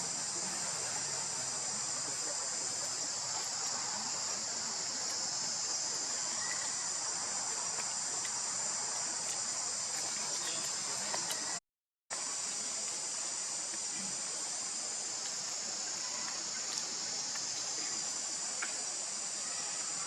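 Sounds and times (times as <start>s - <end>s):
insects buzzing: 0.0s - 11.6s, 12.2s - 20.0s
soft hiss: 0.0s - 11.6s, 12.2s - 20.0s.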